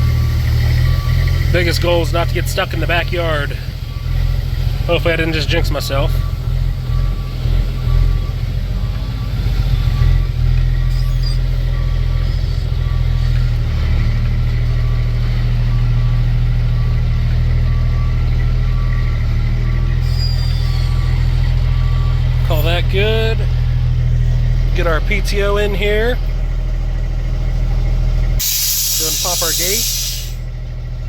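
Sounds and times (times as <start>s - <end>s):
backup alarm beeping: 0.0s - 23.6s, 28.4s - 30.4s
diesel truck engine running: 0.0s - 31.0s.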